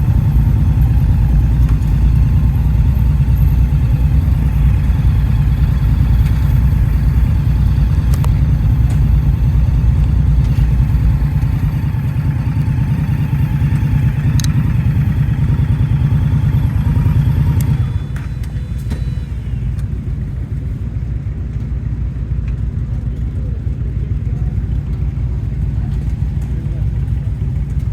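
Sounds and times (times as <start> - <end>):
motorcycle engine rumble: 0.0 - 27.9.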